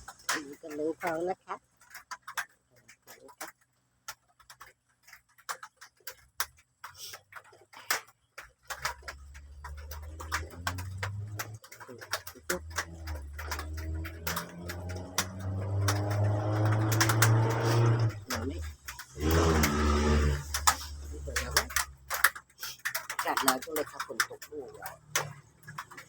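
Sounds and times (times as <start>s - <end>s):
rain dripping: 0.0s - 26.0s.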